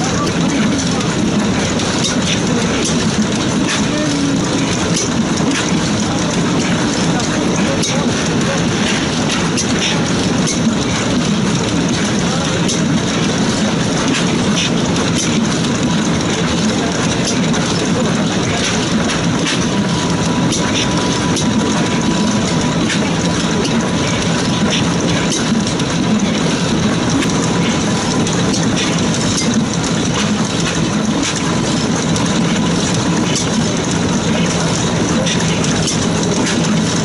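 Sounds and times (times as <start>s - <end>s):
stationary gas engine running: 0.0s - 37.0s.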